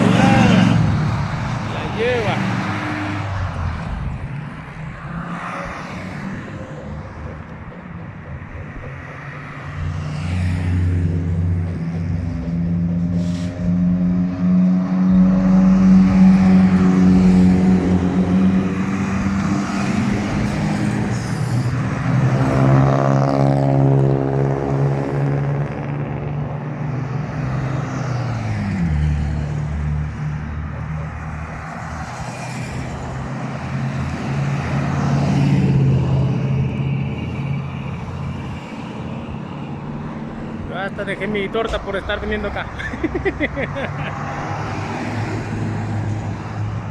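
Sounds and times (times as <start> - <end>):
trucks driving past: 0.0 - 46.9.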